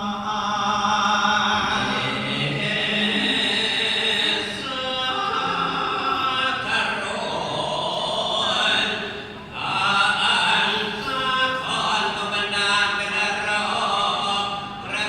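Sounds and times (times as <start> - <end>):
person chanting in held notes: 0.0 - 15.0.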